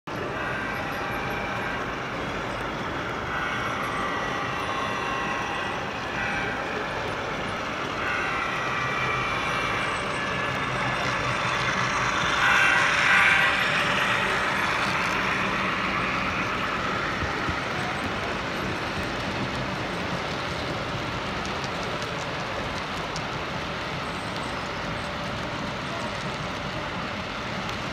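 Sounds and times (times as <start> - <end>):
model train rolling on rails: 0.1 - 27.9.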